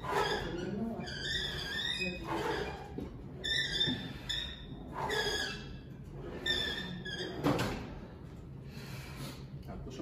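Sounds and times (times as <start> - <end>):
cable machine squeaking: 0.0 - 8.1.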